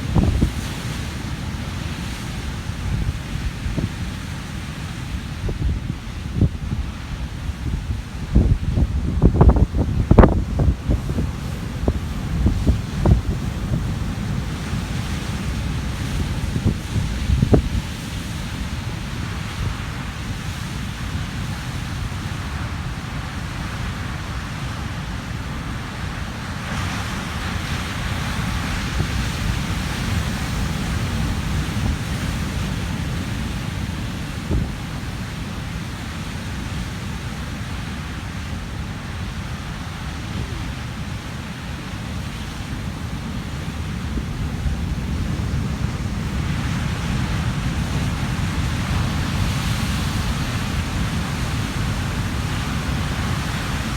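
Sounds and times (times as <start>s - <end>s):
surf breaking on rocky shore: 0.0s - 53.9s
wind buffeting microphone: 0.0s - 53.9s.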